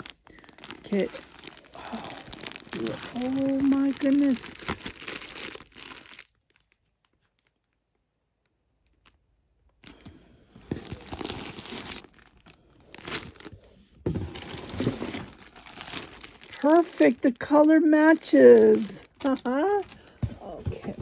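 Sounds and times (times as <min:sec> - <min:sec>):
packaging crinkling: 0:00.0 - 0:07.8, 0:10.7 - 0:21.0.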